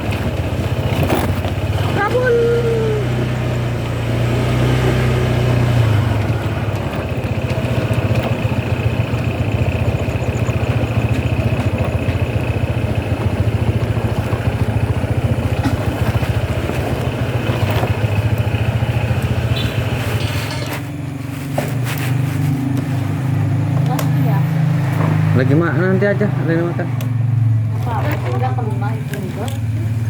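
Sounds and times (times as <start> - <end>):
car engine rattling: 0.0 - 30.0.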